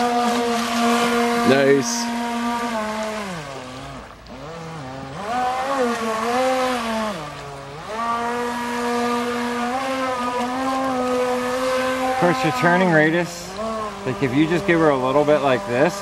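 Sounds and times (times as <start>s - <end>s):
rc jet boat motor whining: 0.0s - 16.0s.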